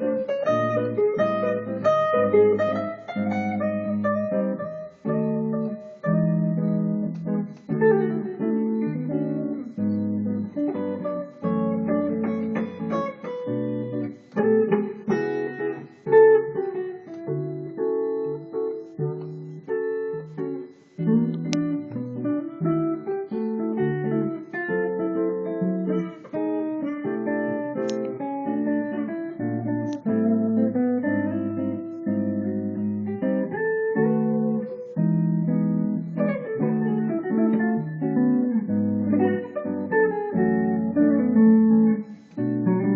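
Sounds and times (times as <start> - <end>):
clean electric guitar jazz: 0.0 - 42.9.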